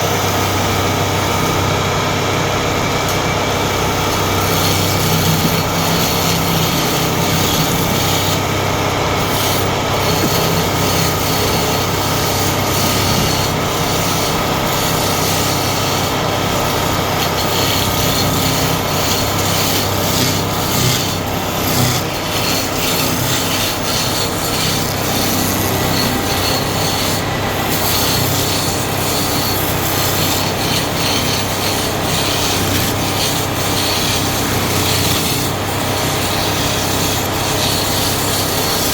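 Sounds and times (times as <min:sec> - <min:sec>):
lathe motor humming: 0:00.0 - 0:38.9
scraping rasp on spinning wood: 0:00.0 - 0:38.9.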